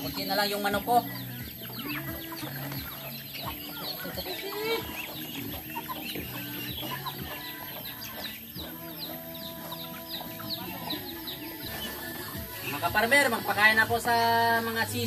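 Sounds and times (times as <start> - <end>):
chickens clucking: 0.0 - 15.0
chicks peeping: 0.0 - 15.0.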